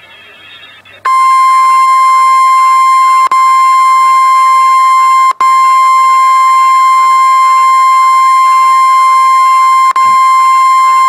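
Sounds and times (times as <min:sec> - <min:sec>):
high steady warning beep: 0:01.1 - 0:11.0.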